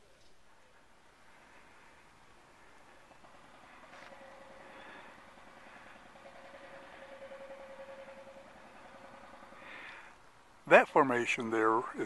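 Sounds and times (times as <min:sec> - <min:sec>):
distant engine hum: 0:00.0 - 0:12.0
outdoor background noise: 0:00.0 - 0:12.0.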